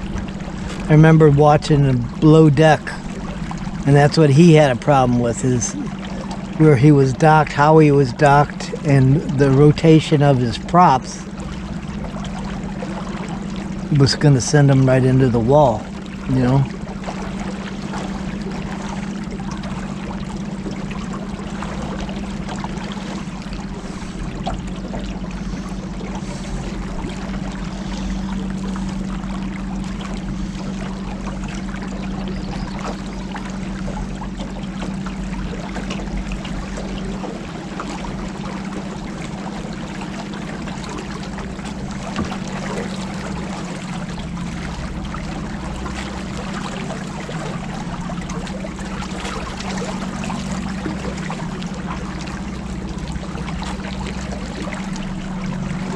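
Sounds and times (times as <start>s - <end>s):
motorboat engine humming: 0.0s - 55.9s
water rushing along hull: 0.0s - 55.9s.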